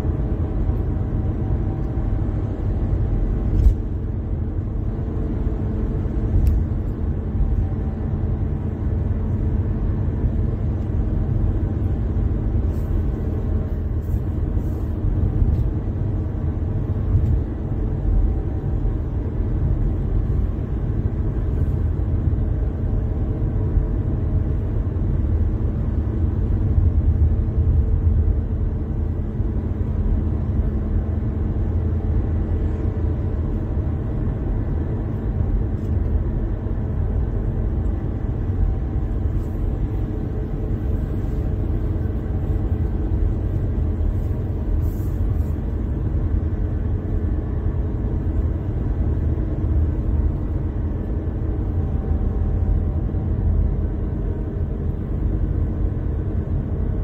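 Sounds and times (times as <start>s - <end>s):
car driving at road speed: 0.0s - 57.0s.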